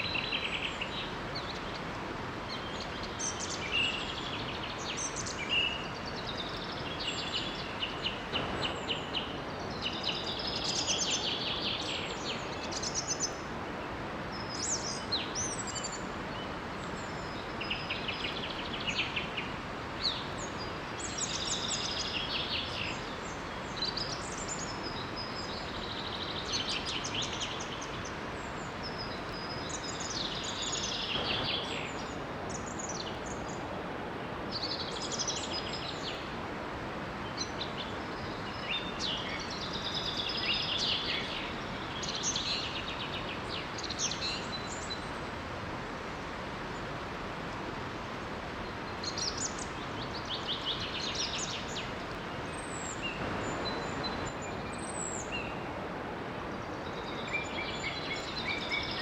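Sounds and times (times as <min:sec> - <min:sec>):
small waterfall rushing: 0:00.0 - 0:59.0
songbirds singing: 0:00.0 - 0:59.0.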